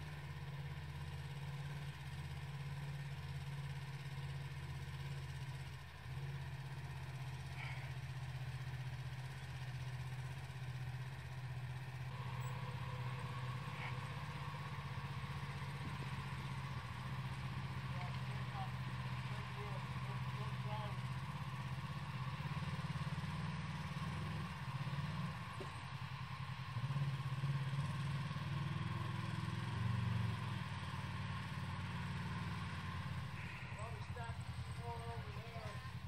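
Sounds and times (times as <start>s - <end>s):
atv engine running at low revs: 0.0s - 36.0s.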